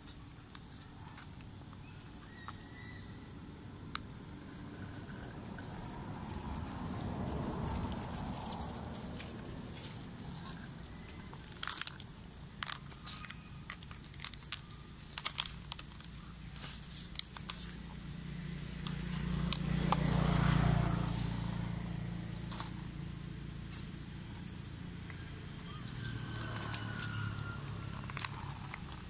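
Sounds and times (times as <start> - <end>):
passing vehicle engine hum: 2.5 - 13.7, 15.7 - 29.0.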